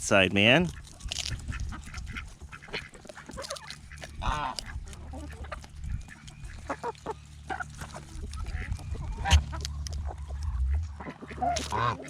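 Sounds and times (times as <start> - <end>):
ducks quacking: 0.5 - 12.0.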